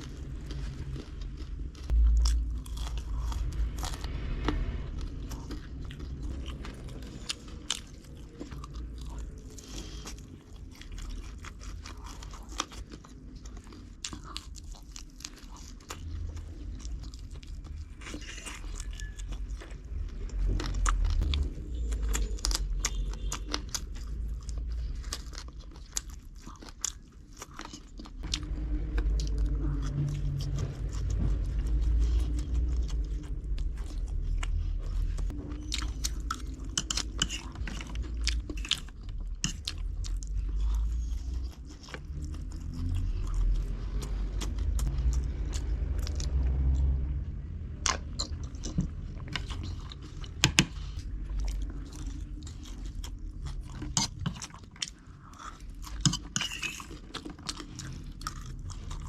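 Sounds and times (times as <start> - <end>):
crunchy food chewing: 0.0 - 59.0
low rumble: 0.0 - 59.0.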